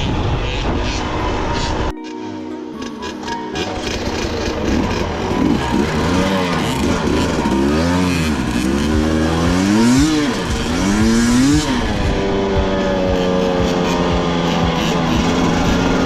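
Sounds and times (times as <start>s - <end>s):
dirt bike engine revving: 2.8s - 16.0s.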